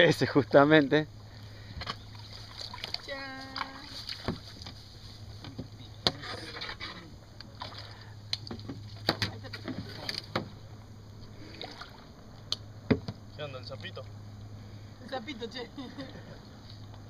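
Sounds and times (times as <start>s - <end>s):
kayaks and paddles clattering: 0.0s - 14.1s
steady low hum: 0.0s - 17.0s.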